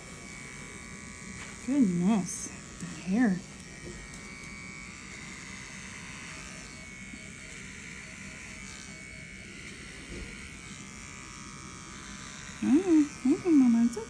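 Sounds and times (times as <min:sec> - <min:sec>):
pet clipper buzzing: 0:00.0 - 0:14.0.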